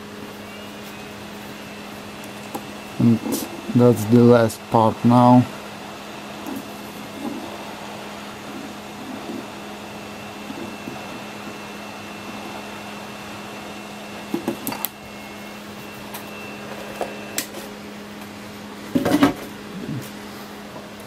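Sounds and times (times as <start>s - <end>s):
heat gun blowing: 0.1s - 17.7s.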